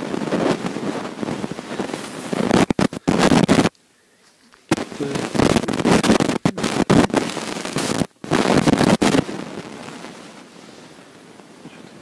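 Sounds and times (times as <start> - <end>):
rough microphone crackling: 0.0 - 12.0
steady hiss: 0.0 - 12.0.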